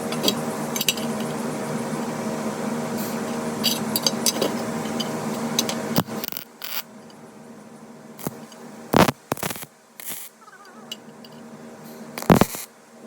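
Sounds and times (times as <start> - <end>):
machine hum: 0.0 - 12.5.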